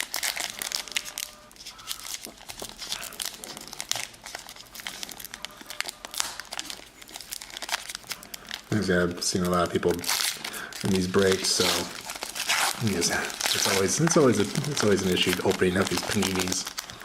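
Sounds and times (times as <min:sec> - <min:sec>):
card pack wrapper crinkling: 0:00.0 - 0:17.0.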